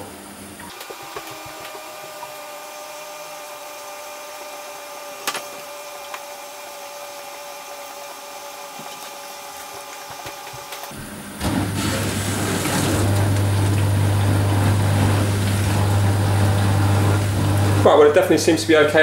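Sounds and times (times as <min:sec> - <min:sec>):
dishwasher pump hum: 0:00.0 - 0:19.0.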